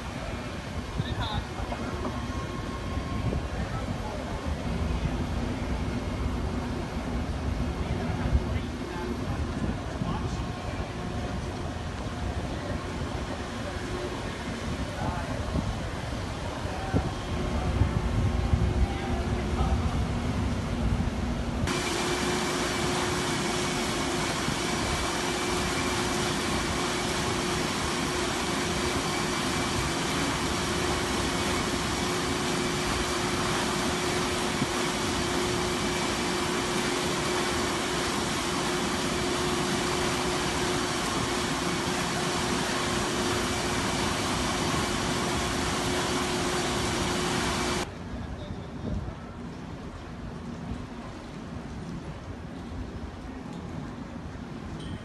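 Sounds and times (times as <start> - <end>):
ventilation blower running: 0.0 - 48.0.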